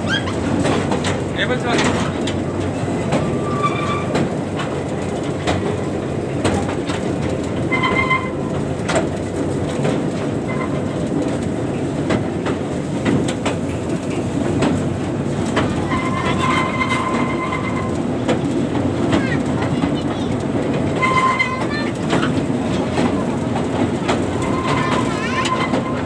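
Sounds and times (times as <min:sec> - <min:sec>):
train rumbling along track: 0:00.0 - 0:26.0
train wheels clicking over rail joints: 0:00.0 - 0:26.0.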